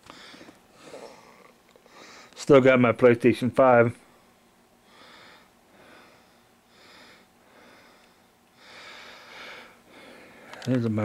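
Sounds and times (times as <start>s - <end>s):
soft noisy breathing: 0.0s - 2.5s, 3.9s - 11.0s.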